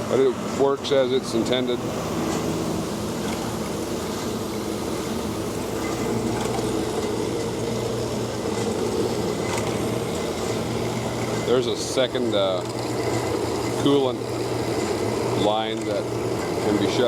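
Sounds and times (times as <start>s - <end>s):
band saw motor humming: 0.0s - 17.0s.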